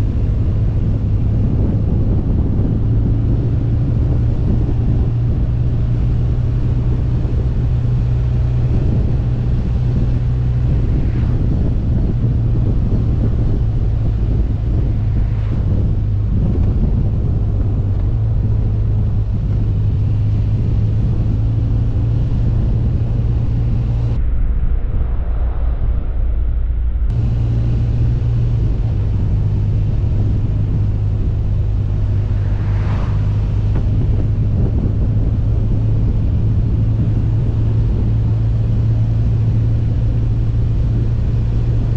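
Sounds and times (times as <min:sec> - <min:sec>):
motorcycle engine cruising: 0:00.0 - 0:24.2, 0:27.1 - 0:41.9
wind noise: 0:00.0 - 0:41.9.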